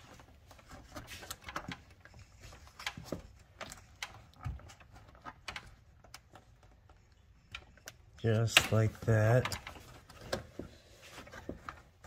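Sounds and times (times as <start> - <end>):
hard plastic clicking and scraping: 0.0 - 12.0.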